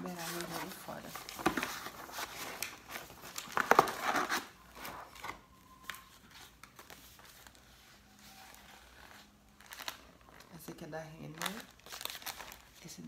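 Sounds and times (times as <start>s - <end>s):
paper crinkling and rustling: 0.0s - 13.0s.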